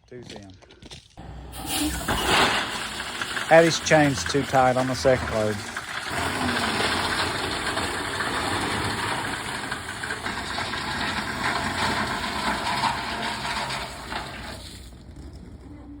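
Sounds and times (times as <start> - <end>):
dump truck engine running: 1.2 - 16.0.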